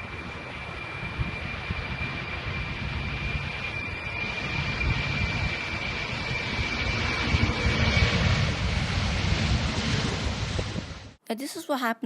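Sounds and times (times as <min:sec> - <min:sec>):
jet airliner engines running: 0:00.0 - 0:11.2.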